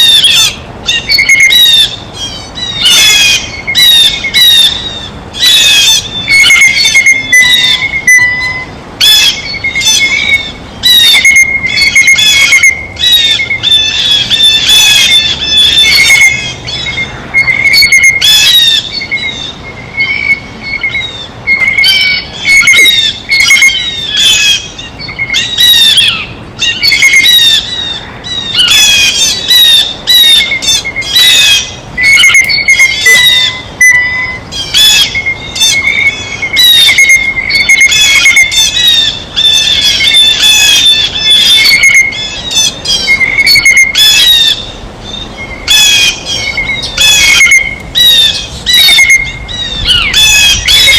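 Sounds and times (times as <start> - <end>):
blue jays calling: 0.0 - 50.9.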